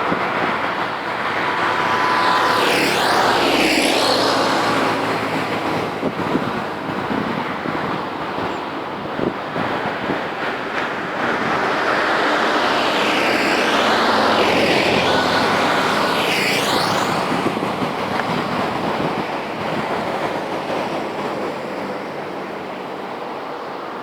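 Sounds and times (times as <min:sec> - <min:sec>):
vehicle passing by: 0:00.0 - 0:23.2
steady road noise: 0:00.0 - 0:24.0.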